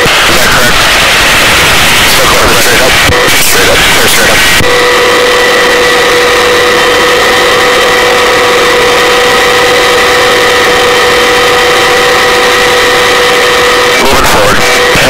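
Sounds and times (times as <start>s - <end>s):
helicopter rotor rushing: 0.0s - 15.0s
helicopter turbine whine: 0.0s - 15.0s.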